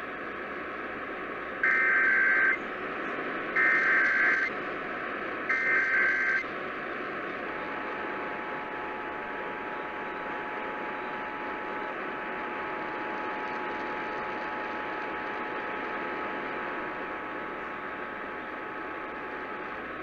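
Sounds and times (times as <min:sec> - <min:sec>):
radio static hiss: 0:00.5 - 0:20.0.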